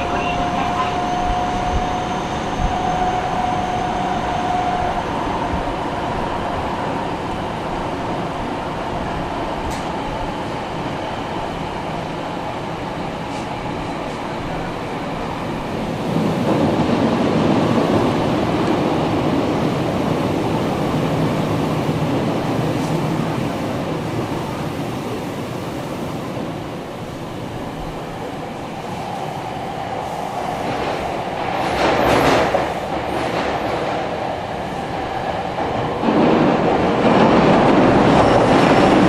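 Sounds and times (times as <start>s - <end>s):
subway train rumbling in tunnel: 0.0s - 39.0s.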